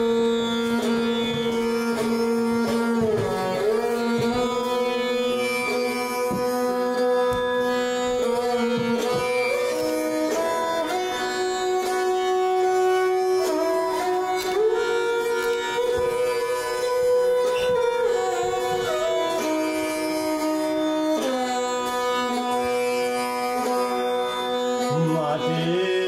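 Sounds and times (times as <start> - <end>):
bowed string instrument melody: 0.0 - 26.0
tanpura drone: 0.0 - 26.0.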